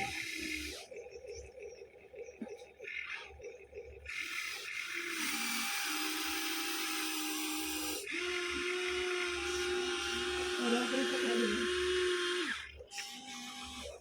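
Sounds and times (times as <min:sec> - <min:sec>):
toy excavator motors whining: 0:00.0 - 0:14.0.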